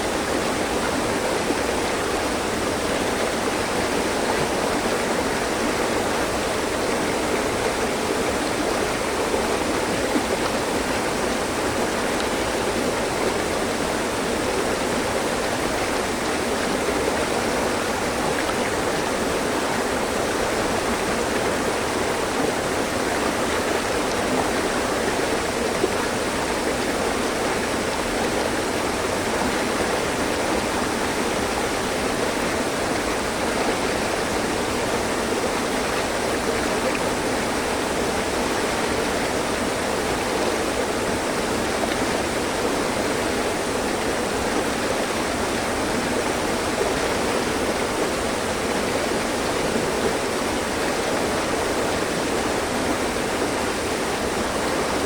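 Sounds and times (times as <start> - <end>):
stream splashing over rocks: 0.0 - 55.0.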